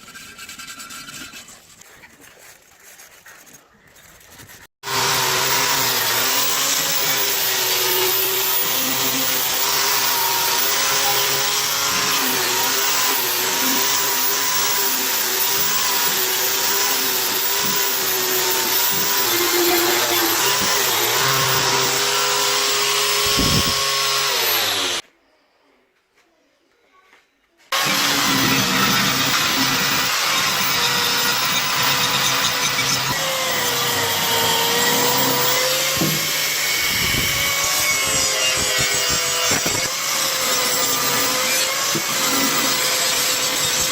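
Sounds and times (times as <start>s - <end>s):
power tool whining: 4.8s - 25.0s, 27.7s - 43.9s.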